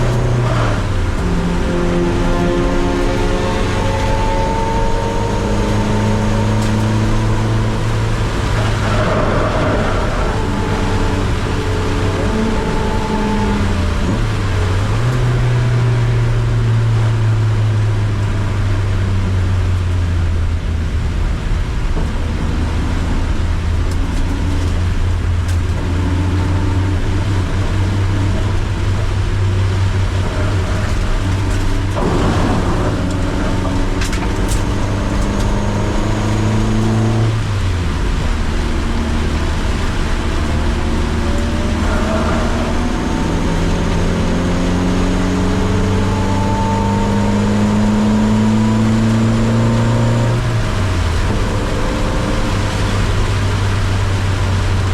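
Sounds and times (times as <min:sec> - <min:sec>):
car engine accelerating: 0:00.0 - 0:54.9
tyre noise on wet road: 0:00.0 - 0:54.9.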